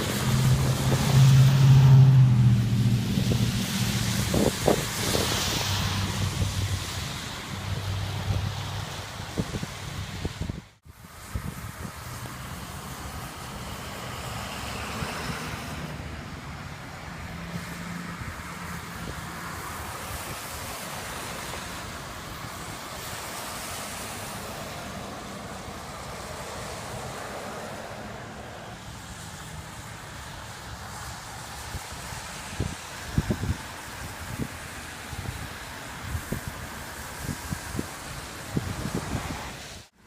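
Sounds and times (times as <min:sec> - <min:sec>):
wind blowing across microphone: 0:00.0 - 0:27.6, 0:28.7 - 0:39.9.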